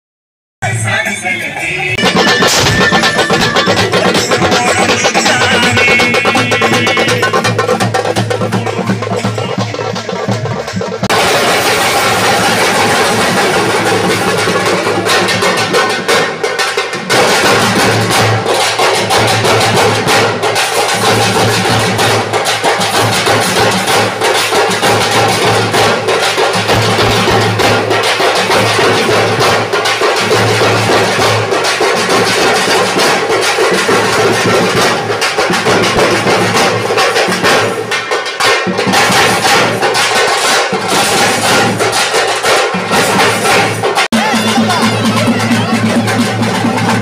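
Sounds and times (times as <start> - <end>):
frame drums and barrel drum: 1.9 - 47.0.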